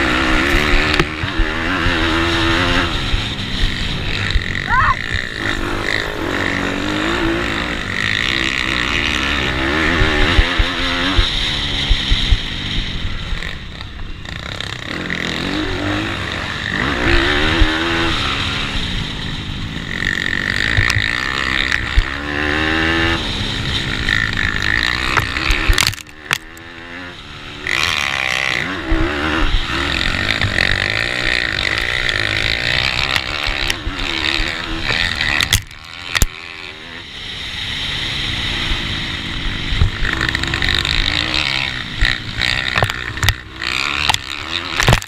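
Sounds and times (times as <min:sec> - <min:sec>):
pitbike engines revving: 0:00.0 - 0:45.0.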